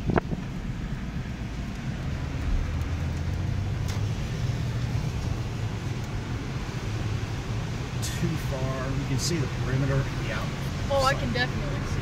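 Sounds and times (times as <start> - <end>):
engine and road hum: 0.0 - 12.0
tyres hissing on wet road: 0.0 - 12.0.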